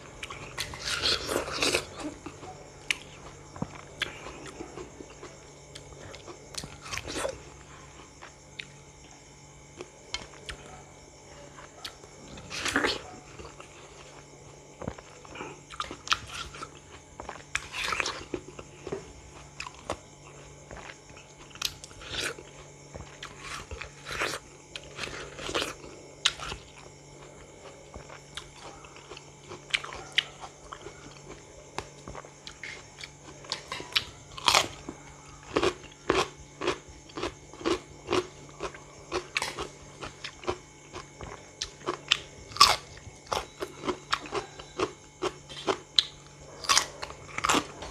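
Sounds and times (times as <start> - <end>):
person chewing crisp food: 0.0 - 47.9.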